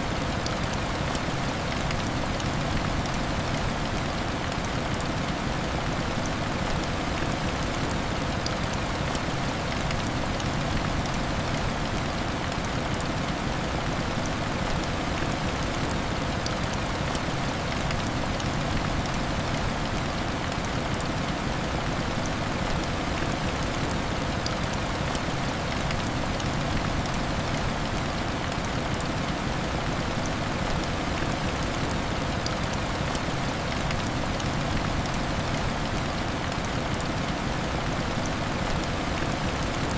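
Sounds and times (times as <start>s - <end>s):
heavy rain on window glass: 0.1s - 39.9s.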